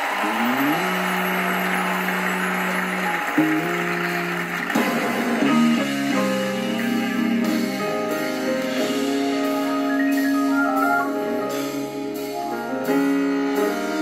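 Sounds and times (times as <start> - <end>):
instrumental gospel music: 0.0 - 14.0.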